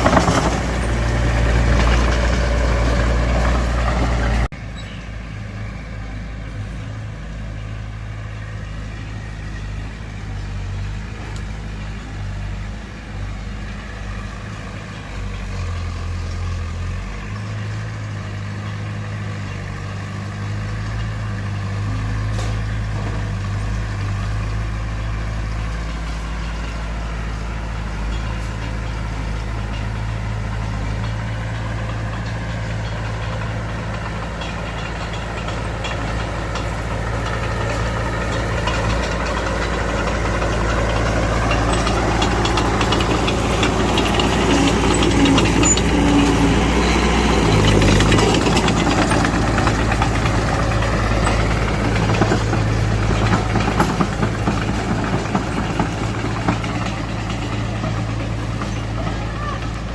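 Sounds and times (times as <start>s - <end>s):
bulldozer diesel engine running: 0.0s - 59.9s
track clatter and squealing: 0.0s - 59.9s.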